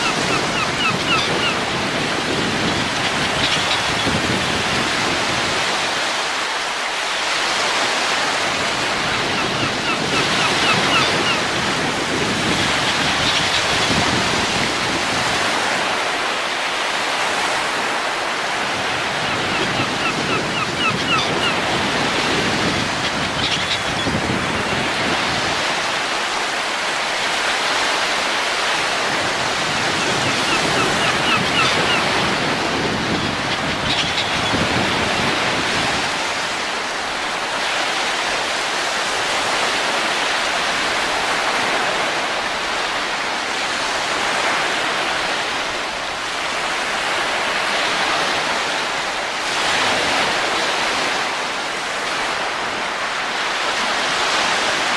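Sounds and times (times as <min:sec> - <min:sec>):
wind blowing: 0:00.0 - 0:06.3, 0:07.9 - 0:54.9.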